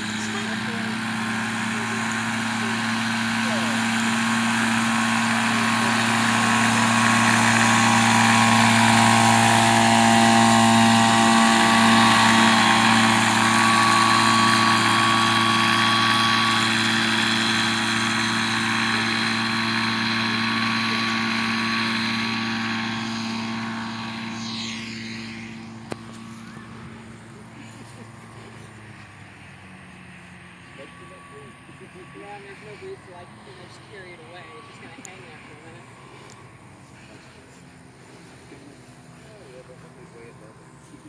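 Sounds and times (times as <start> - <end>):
light aircraft engine and propeller: 0.0 - 41.0.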